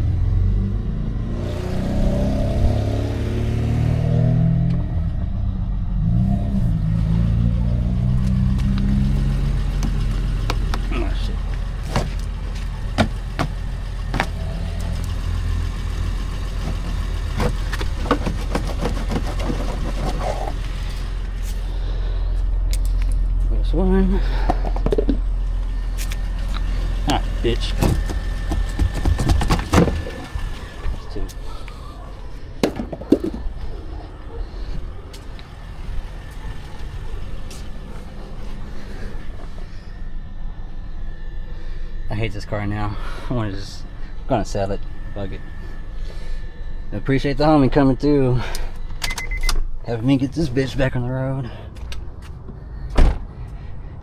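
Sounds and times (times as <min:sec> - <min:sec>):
car engine idling: 0:04.7 - 0:49.1.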